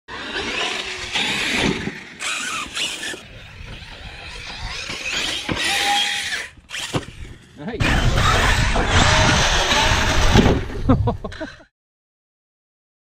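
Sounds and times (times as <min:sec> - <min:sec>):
rc truck motor whining: 0:00.1 - 0:10.9.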